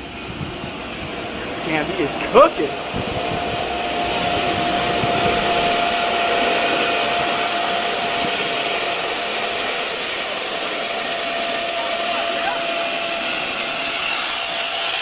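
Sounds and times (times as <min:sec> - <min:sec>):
jet turbine whine: 0:00.0 - 0:15.0.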